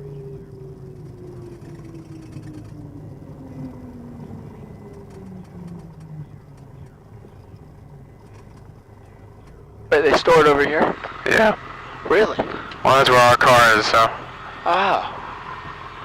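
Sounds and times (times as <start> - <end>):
airplane engine idling: 0.0 - 16.0.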